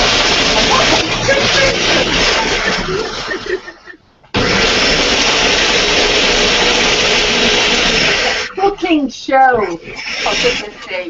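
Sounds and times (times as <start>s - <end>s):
blender grinding: 0.0s - 3.6s, 4.4s - 8.8s, 9.6s - 11.0s.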